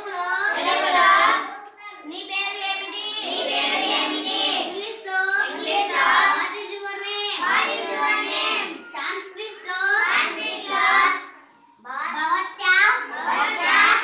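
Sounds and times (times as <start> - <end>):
children chanting in sing-song: 0.0 - 11.5, 12.6 - 14.0.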